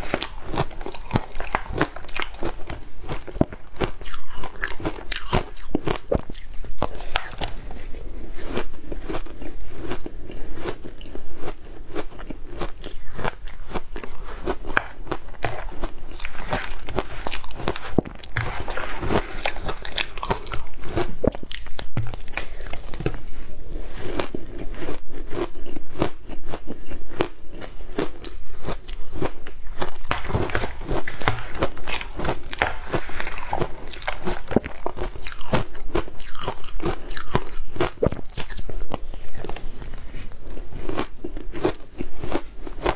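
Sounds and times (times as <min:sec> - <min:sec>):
person chewing ice: 0:00.0 - 0:42.9.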